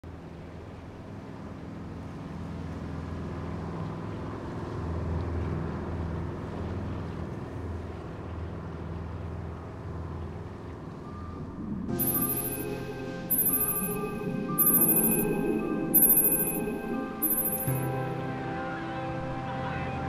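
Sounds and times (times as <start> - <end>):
boat engine droning: 2.0 - 20.0.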